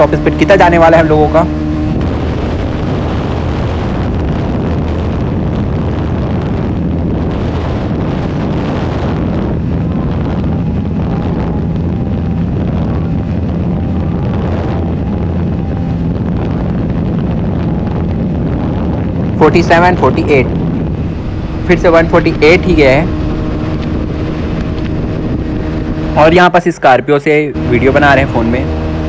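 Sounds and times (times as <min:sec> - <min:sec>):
motorcycle engine at high revs: 0:00.0 - 0:19.2, 0:20.2 - 0:26.5, 0:27.4 - 0:29.0
wind noise on microphone: 0:00.0 - 0:29.0.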